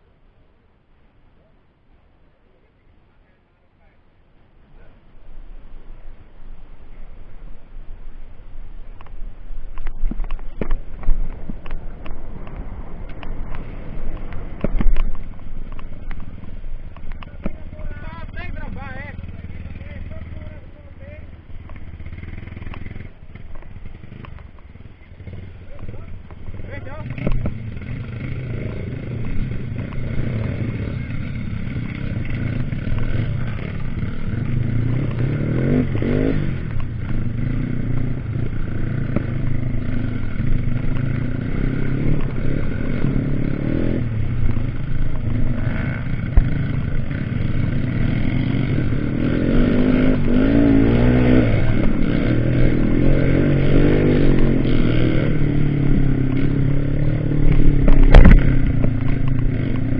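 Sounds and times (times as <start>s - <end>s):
motorcycle engine revving: 4.7s - 59.9s.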